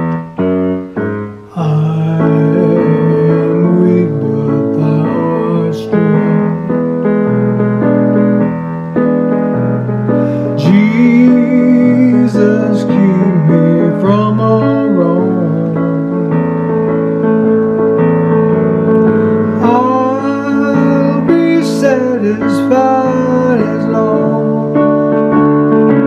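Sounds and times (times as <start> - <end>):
slow piano-like keyboard chords: 0.0 - 26.0.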